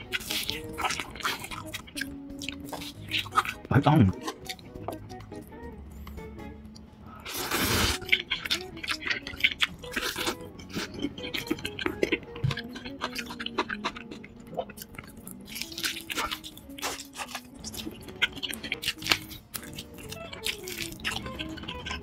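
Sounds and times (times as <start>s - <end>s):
crunchy chewing of fried chicken: 0.0s - 4.7s, 7.2s - 22.0s.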